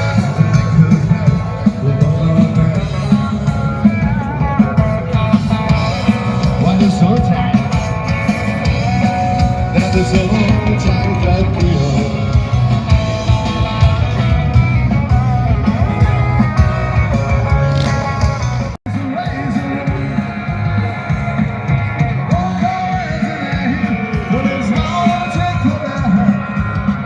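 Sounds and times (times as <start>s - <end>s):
rock music with singing: 0.0s - 27.0s.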